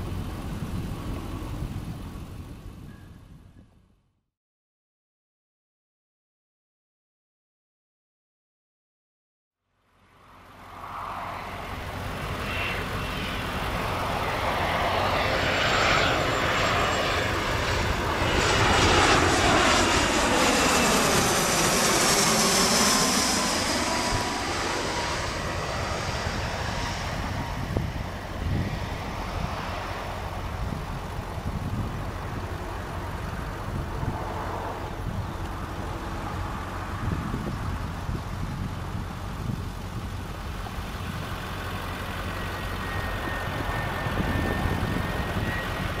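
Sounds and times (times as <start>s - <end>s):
jet airliner passing overhead: 0.0s - 3.1s, 9.9s - 46.0s.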